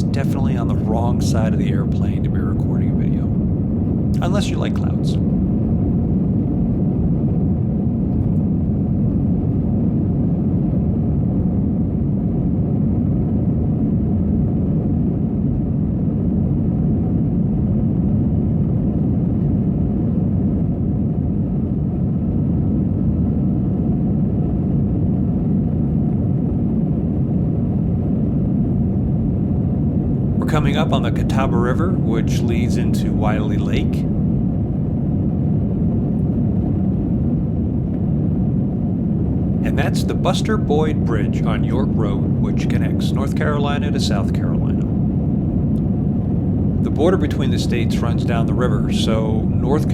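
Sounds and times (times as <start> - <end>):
airplane cabin roar: 0.0 - 49.9.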